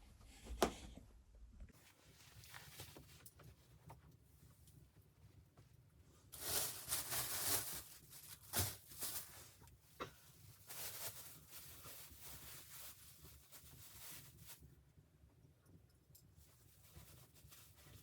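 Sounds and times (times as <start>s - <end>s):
rustling and scraping handling: 1.8s - 14.9s, 16.1s - 18.0s.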